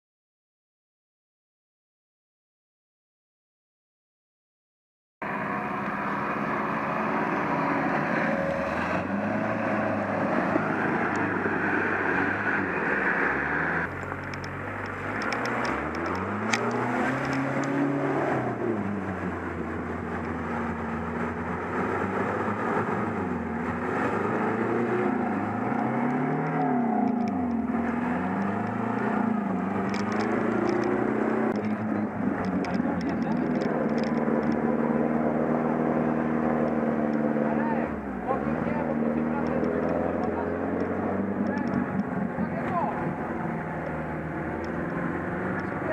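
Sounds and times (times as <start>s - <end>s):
engine revving: 5.2s - 45.9s.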